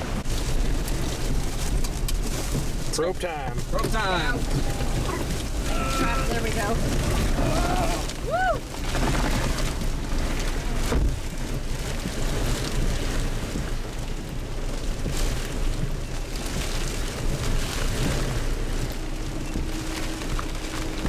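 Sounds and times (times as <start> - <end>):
blowing rain: 0.0 - 21.0
hurricane wind gusting: 0.0 - 21.0
wind buffeting microphone: 0.0 - 21.0.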